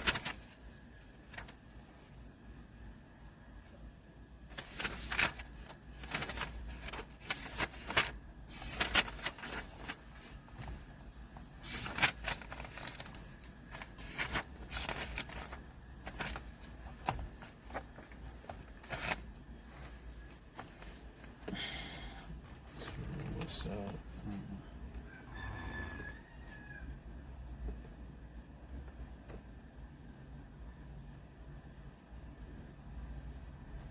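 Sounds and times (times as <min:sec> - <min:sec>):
faint low hum: 0:00.0 - 0:33.9.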